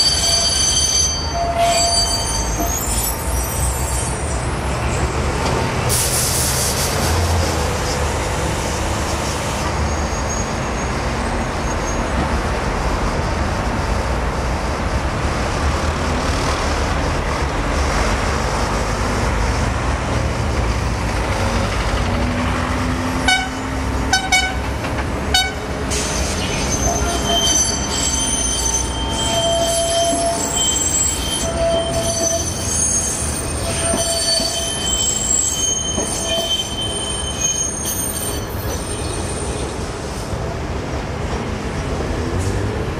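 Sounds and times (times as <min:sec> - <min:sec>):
tram wheels squealing: 0:00.0 - 0:17.7, 0:20.0 - 0:42.8
street traffic rumble: 0:00.0 - 0:42.9.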